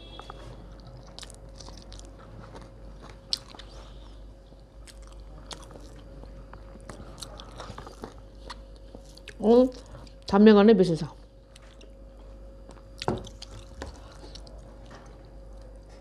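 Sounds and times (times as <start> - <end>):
person chewing with wet smacks: 0.2 - 10.3, 11.4 - 16.0.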